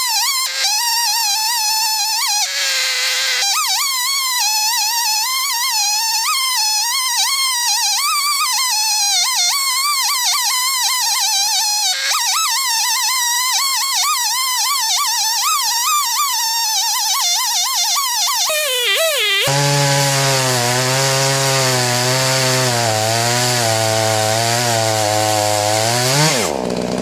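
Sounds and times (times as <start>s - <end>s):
chainsaw cutting log: 0.0s - 27.0s.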